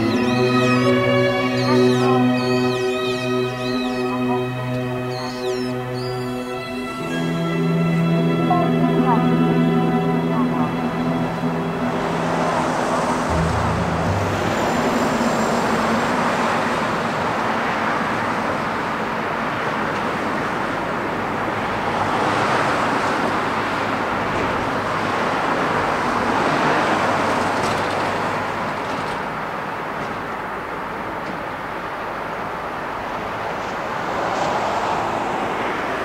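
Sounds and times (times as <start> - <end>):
road traffic rushing: 0.0 - 36.0.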